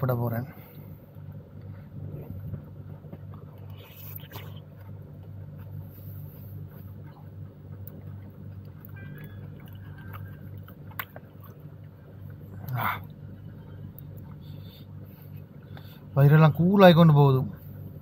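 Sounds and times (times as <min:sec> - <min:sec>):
low mechanical hum: 0:00.0 - 0:18.0
quiet eating sounds: 0:00.0 - 0:18.0.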